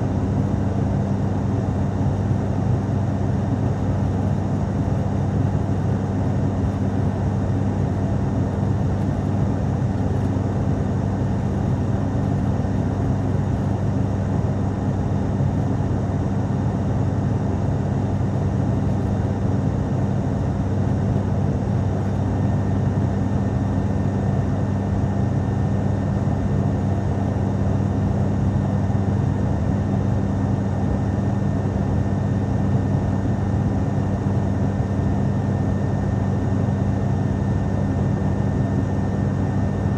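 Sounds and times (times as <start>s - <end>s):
airliner engine and propeller hum: 0.0s - 39.9s.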